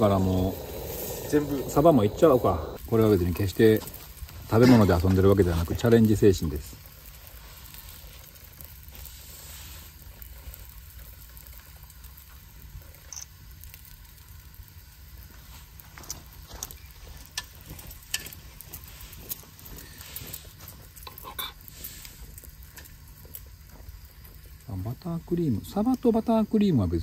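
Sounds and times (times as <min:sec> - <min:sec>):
frying pan sizzling: 0:00.0 - 0:26.6.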